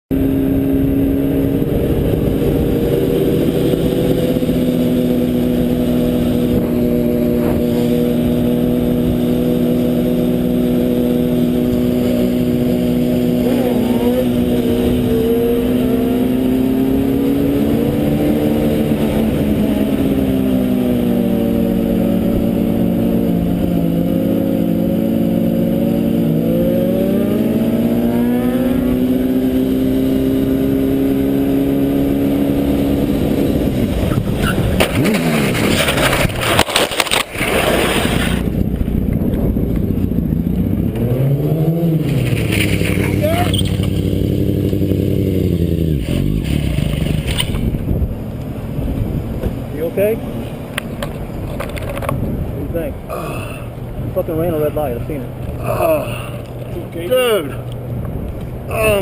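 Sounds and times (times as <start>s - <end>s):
motorcycle engine cruising: 0.1s - 59.0s.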